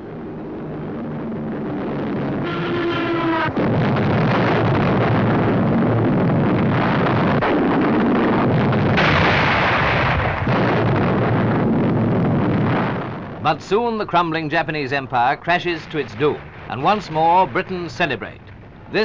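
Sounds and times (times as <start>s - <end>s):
artillery and mortar fire: 1.5s - 14.1s, 15.4s - 19.0s.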